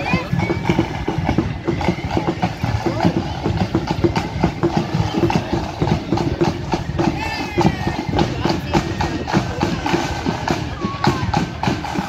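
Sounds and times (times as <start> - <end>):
crowd chatter: 0.0 - 12.0
marching band drums: 0.0 - 12.0.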